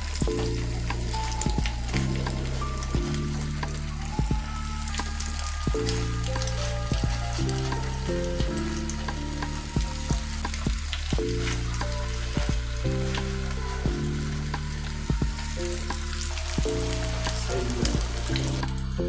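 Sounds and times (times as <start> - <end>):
background music with bass: 0.0 - 19.0
food deep-frying in oil: 0.0 - 19.0.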